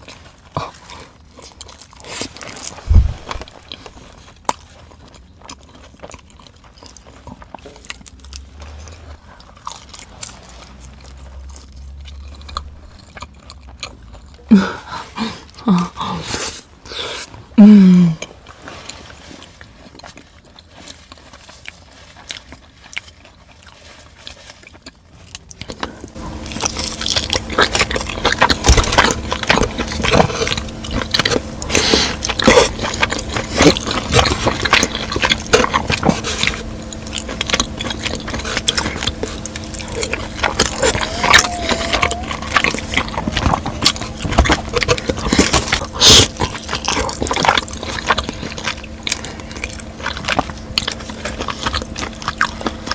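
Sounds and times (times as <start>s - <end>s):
steady low hum: 0.0s - 23.1s, 25.0s - 52.9s
person biting and chewing: 0.0s - 52.9s.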